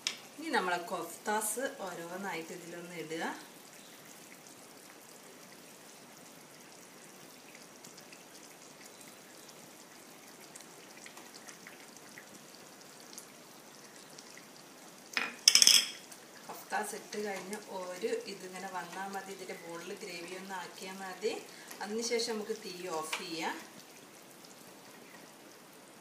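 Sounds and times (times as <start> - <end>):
gravy simmering with bubbling pops: 0.0 - 26.0.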